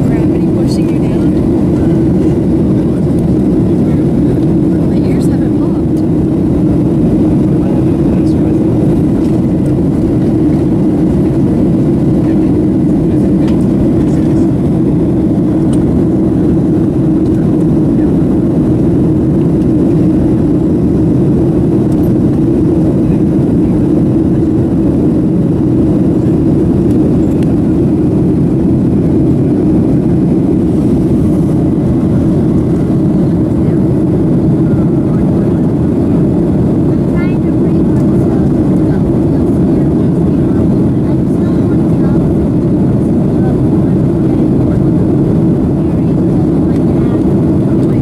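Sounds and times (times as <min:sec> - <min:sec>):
airliner cabin engine drone: 0:00.0 - 0:48.0.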